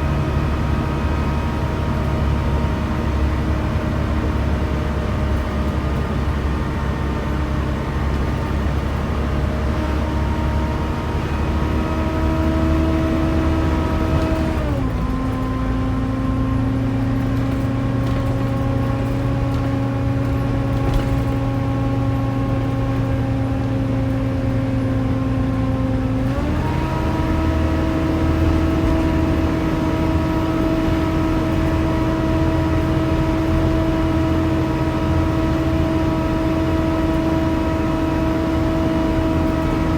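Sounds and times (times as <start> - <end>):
bus engine whining: 0.0 - 39.9
road rumble: 0.0 - 39.9.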